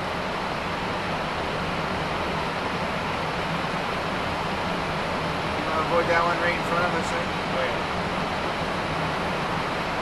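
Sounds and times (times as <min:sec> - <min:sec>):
rushing airflow and air-conditioning: 0:00.0 - 0:10.0.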